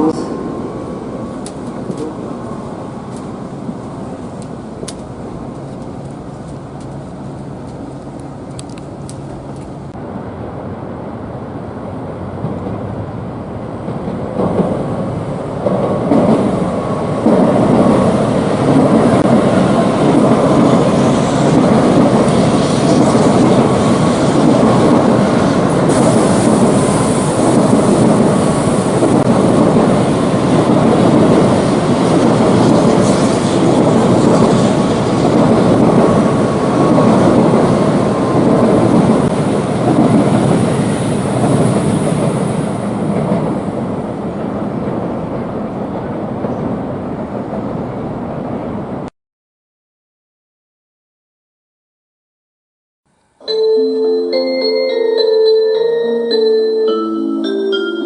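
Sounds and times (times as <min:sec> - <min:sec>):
train rushing and rumbling: 0:00.0 - 0:49.1.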